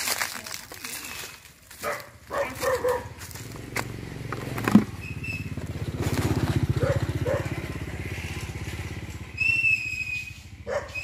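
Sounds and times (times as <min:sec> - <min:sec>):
motorbike engine running: 0:02.0 - 0:11.0.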